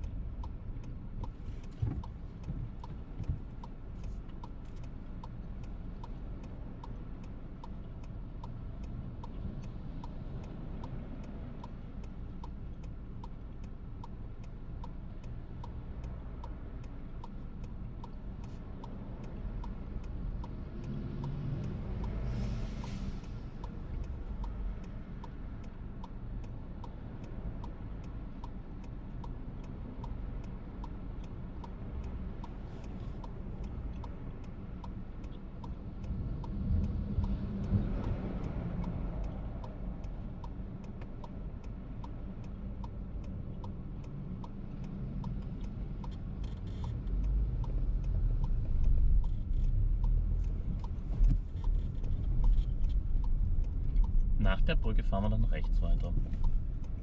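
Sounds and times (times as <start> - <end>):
engine and road rumble: 0.0 - 57.0
turn signal ticking: 0.0 - 57.0.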